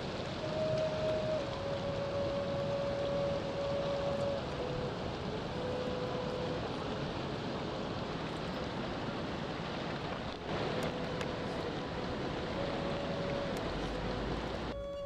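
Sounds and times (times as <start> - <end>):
churning water rushing: 0.0 - 15.0
wind: 0.0 - 15.0.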